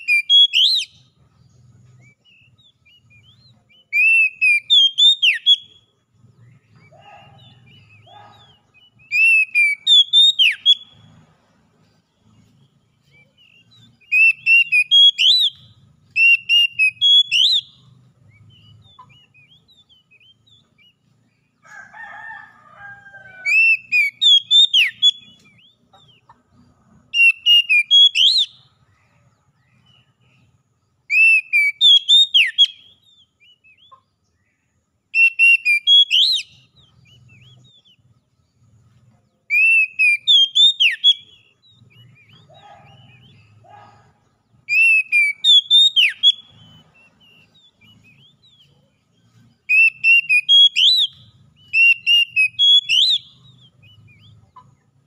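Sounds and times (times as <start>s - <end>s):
bird singing whistled notes: 0.0s - 22.2s, 23.1s - 55.0s.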